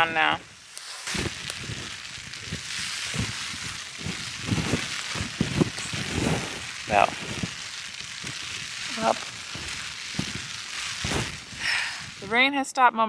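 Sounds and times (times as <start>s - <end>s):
heavy rain: 0.0s - 12.4s
raindrops knocking close by: 0.0s - 12.5s.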